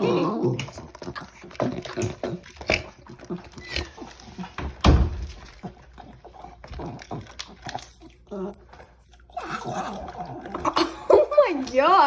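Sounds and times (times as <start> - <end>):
dog crunching and chomping food: 0.0 - 12.0.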